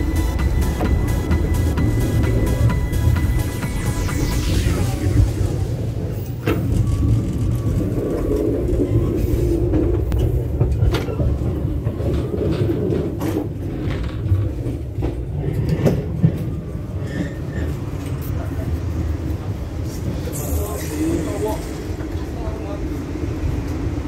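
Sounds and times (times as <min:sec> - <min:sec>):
train coaches rumbling: 0:00.0 - 0:24.0.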